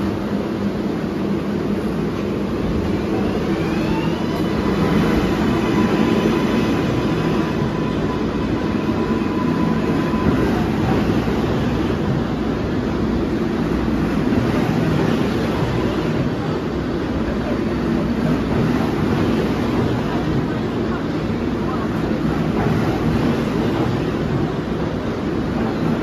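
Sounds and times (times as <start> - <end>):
subway train rumbling on track: 0.0 - 26.0.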